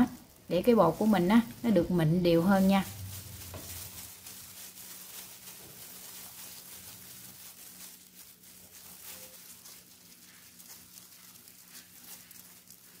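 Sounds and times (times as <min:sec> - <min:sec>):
dough rubbed through metal sieve: 0:00.0 - 0:13.0.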